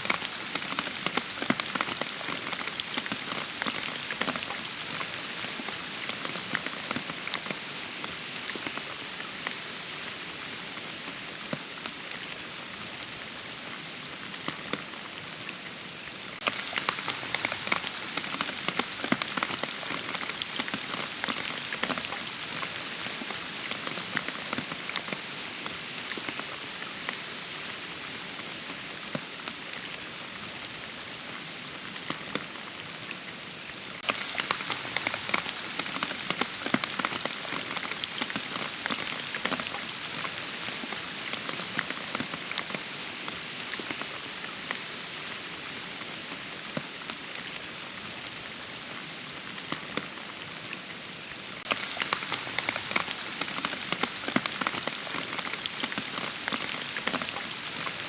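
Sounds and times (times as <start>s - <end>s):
rain drops striking close: 0.0s - 58.0s.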